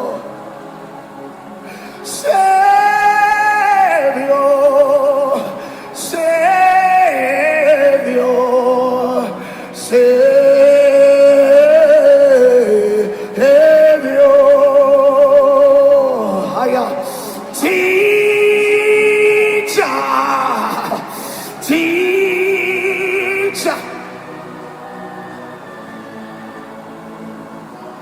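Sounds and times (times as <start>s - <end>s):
person singing with vibrato: 0.0s - 28.0s.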